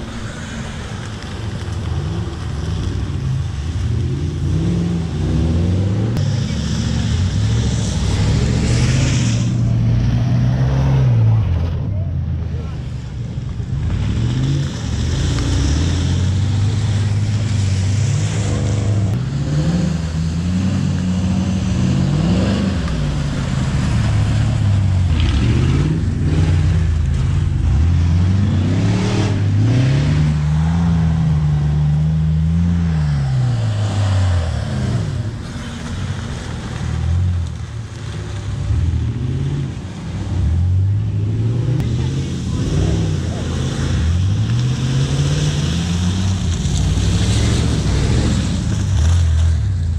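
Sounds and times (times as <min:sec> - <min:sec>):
vehicle engine revving: 0:00.0 - 0:49.9.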